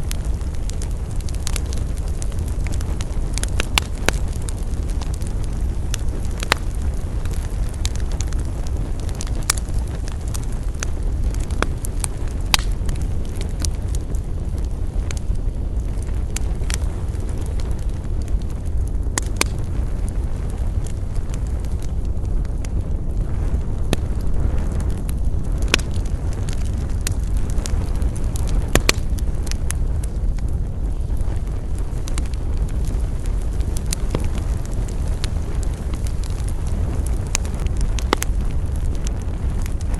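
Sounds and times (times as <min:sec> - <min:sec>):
campfire crackles and pops: 0:00.0 - 0:39.9
low fire rumble: 0:00.0 - 0:39.9.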